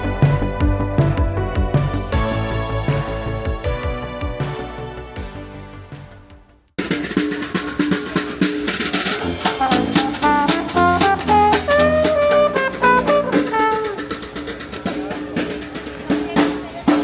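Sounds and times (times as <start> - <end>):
upbeat music with drum kit: 0.0 - 17.0.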